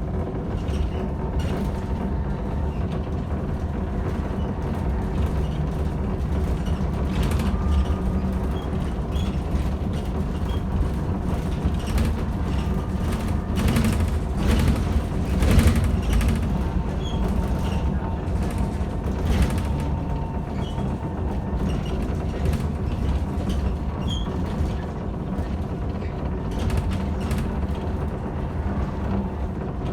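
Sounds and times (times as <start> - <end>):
trolleybus rumble: 0.0 - 29.9
body creaking and rattling: 0.1 - 28.3.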